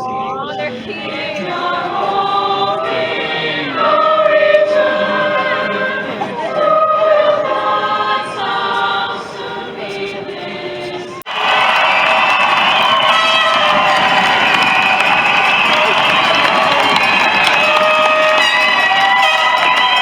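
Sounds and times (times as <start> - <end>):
choir singing long notes: 0.0 - 20.0.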